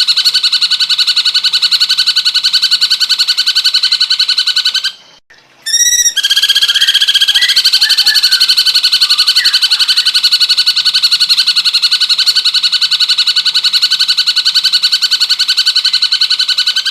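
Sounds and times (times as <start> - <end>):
bird fast trill: 0.0 - 16.9
other birds chirping faintly: 1.2 - 16.9.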